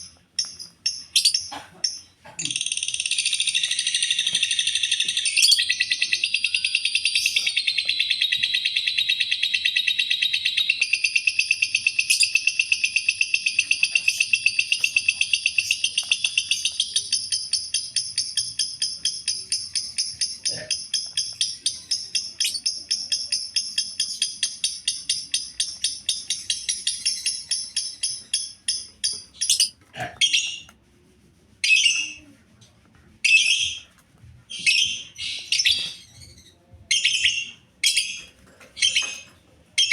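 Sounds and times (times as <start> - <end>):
lovebird chattering: 0.0 - 30.7, 34.5 - 39.9.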